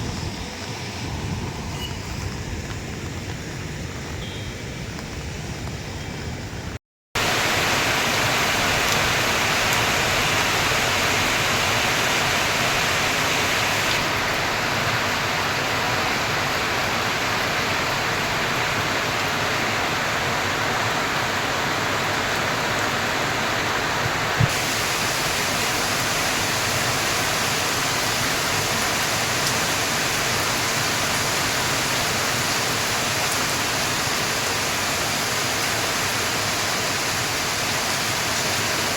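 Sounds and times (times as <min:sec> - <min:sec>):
heavy rain falling: 0:07.2 - 0:38.9.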